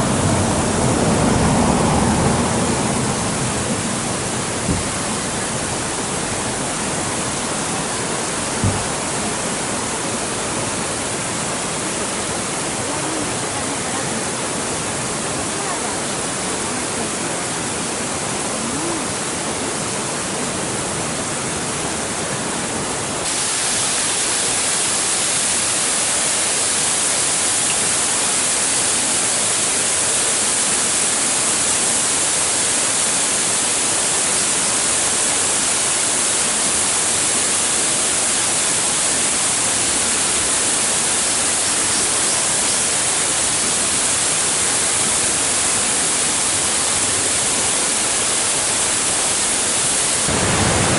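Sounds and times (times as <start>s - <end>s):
water rushing in stream: 0.0s - 50.9s.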